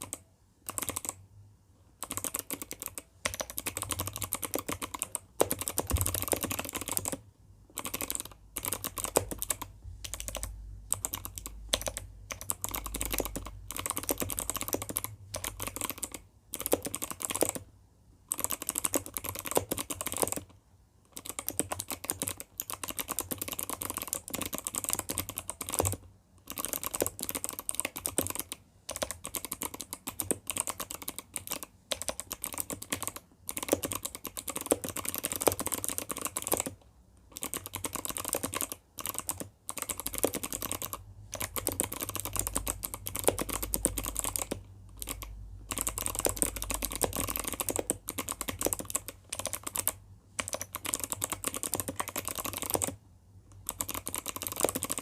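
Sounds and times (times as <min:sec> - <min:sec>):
mechanical keyboard typing clicks: 0:00.0 - 0:01.2, 0:02.0 - 0:17.7, 0:18.3 - 0:55.0.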